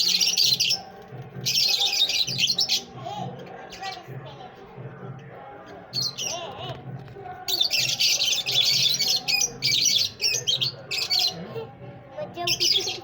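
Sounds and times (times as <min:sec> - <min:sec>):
parrots chattering and squawking: 0:00.0 - 0:04.2, 0:05.9 - 0:13.0.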